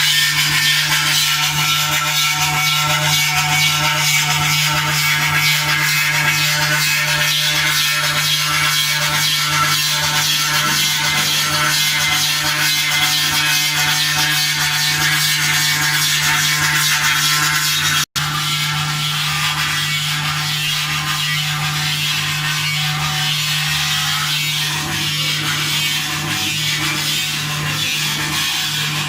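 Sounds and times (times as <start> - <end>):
engraving machine spindle hum: 0.0 - 29.0.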